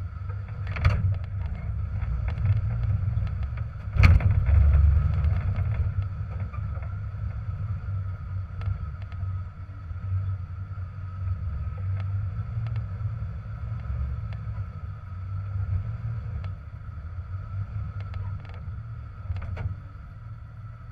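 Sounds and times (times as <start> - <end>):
engine running low: 0.0 - 20.9
faint steady whine: 0.0 - 20.9.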